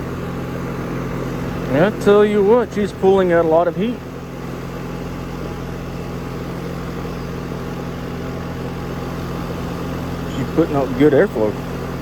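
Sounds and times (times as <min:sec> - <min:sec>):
compressor low hum: 0:00.0 - 0:12.0
rush of air from fan: 0:00.0 - 0:12.0.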